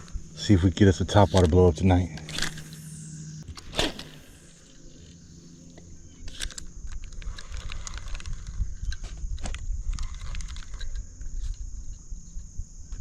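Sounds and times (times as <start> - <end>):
reel and tackle clicking: 1.1 - 11.6.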